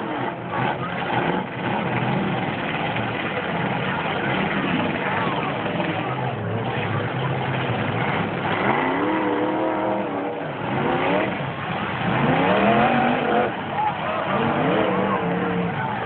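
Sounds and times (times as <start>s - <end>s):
dense background noise: 0.0s - 16.0s
truck engines revving: 0.0s - 16.0s.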